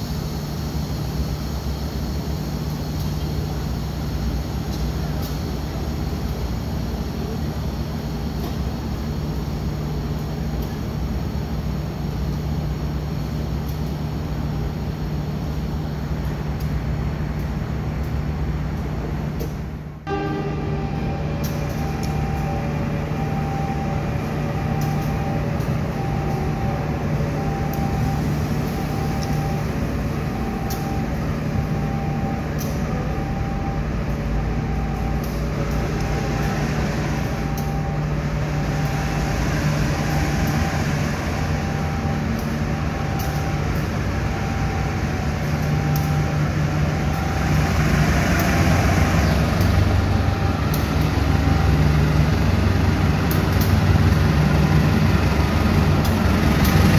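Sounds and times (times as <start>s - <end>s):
locomotive engine running: 0.0s - 56.9s.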